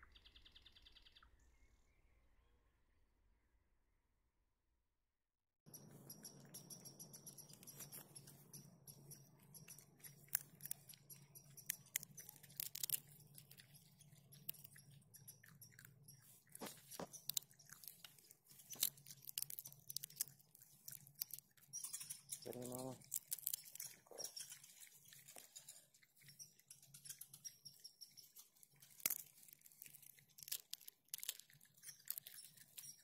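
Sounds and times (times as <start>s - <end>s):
raccoon crunching peanuts: 5.8s - 33.0s.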